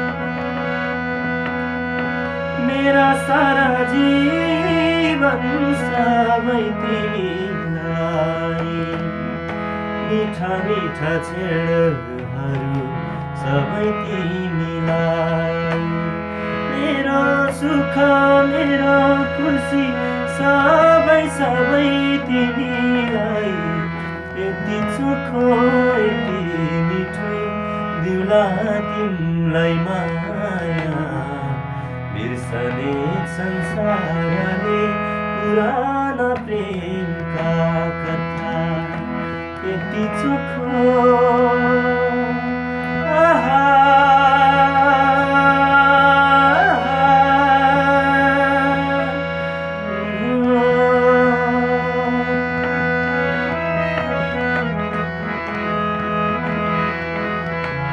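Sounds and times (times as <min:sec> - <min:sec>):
harmonium playing chords: 0:00.0 - 0:57.9
man singing: 0:02.4 - 0:57.9.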